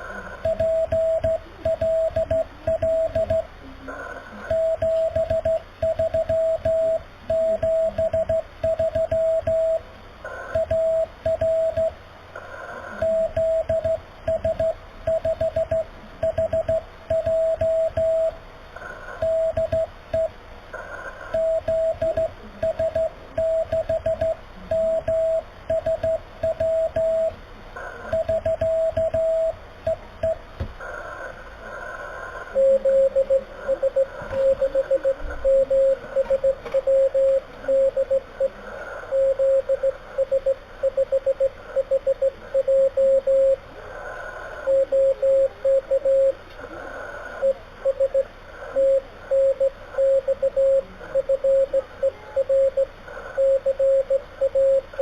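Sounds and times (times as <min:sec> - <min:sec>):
radio band noise hiss: 0:00.0 - 0:55.0
morse code beep tone: 0:00.4 - 0:03.5, 0:04.5 - 0:09.8, 0:10.5 - 0:12.0, 0:12.9 - 0:18.4, 0:19.2 - 0:20.3, 0:21.3 - 0:27.4, 0:28.1 - 0:30.4, 0:32.6 - 0:43.6, 0:44.6 - 0:46.4, 0:47.4 - 0:55.0.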